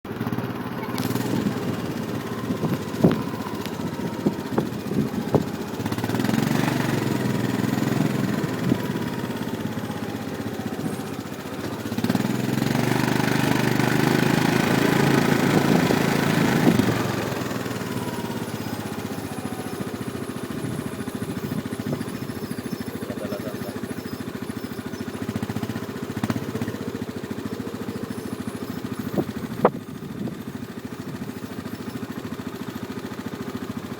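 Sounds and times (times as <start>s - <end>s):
atv engines running: 0.1s - 33.9s.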